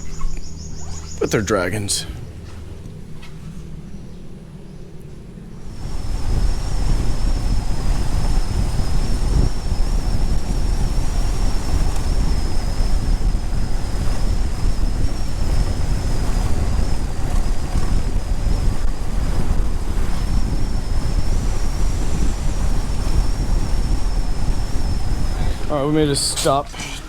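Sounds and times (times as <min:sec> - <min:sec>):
thin high whine: 0:00.0 - 0:02.6, 0:05.5 - 0:27.0
wind buffeting microphone: 0:00.0 - 0:27.0.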